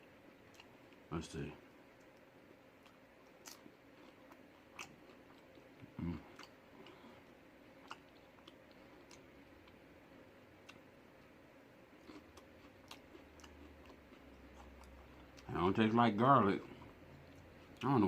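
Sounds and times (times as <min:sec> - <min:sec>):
person chewing food: 0:00.3 - 0:01.0, 0:02.0 - 0:09.9, 0:10.5 - 0:15.6, 0:16.6 - 0:17.9.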